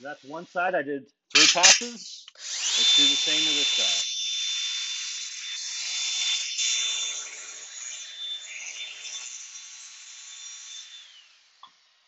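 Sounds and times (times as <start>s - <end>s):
grinder grinding steel blade: 1.4s - 11.6s
grinder motor high whine: 1.4s - 11.6s.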